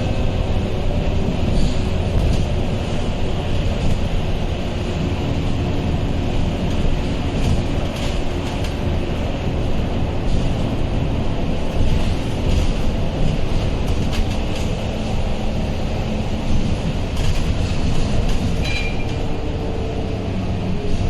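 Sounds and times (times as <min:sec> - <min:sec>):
bus diesel engine rumble: 0:00.0 - 0:21.0
road noise: 0:00.0 - 0:21.0.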